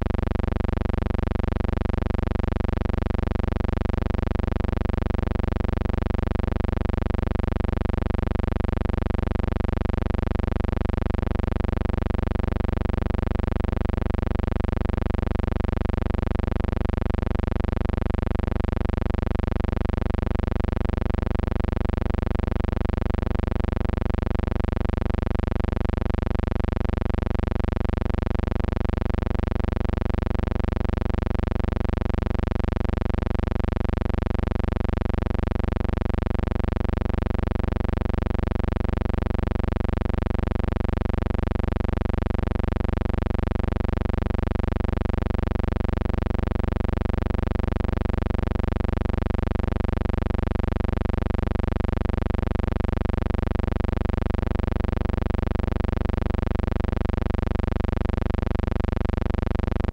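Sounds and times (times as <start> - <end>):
low electrical buzzing hum: 0.0 - 59.9.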